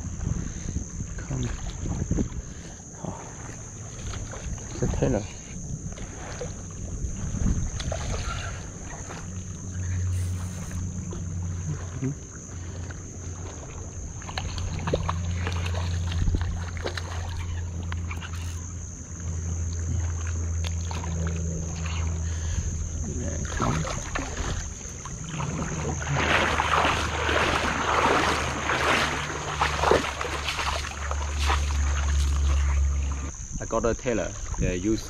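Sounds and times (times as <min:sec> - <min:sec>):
steady low rumble: 0:00.0 - 0:35.0
fish splashing in shallows: 0:01.4 - 0:33.4.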